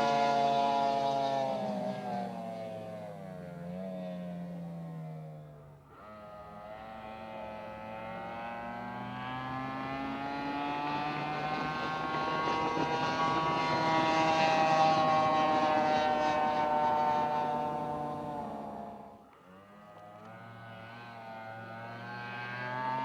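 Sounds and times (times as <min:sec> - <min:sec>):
boat engine running hard: 0:00.0 - 0:19.2.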